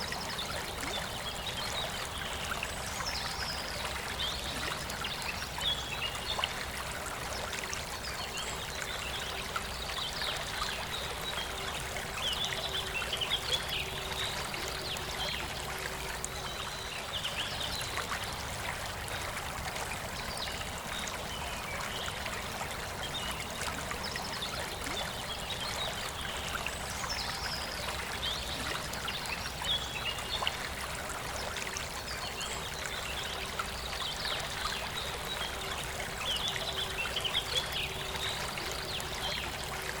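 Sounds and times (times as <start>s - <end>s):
river flowing: 0.0s - 40.0s.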